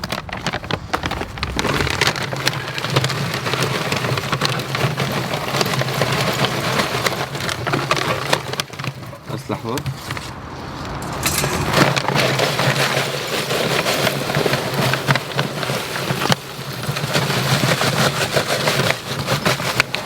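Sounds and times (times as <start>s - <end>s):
clattering and knocks: 0.0s - 20.0s.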